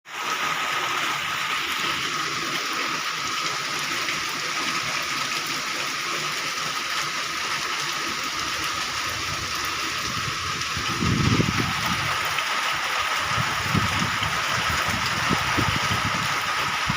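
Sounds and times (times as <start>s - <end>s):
heavy rain: 0.1s - 16.9s.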